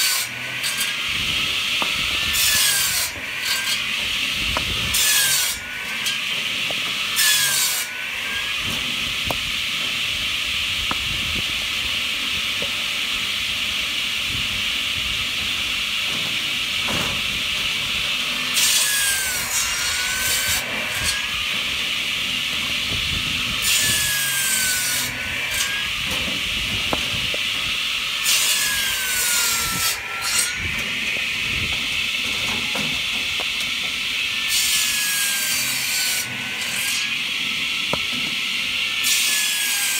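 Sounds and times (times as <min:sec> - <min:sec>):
saw rasping through log: 0:00.0 - 0:14.2, 0:18.1 - 0:39.9.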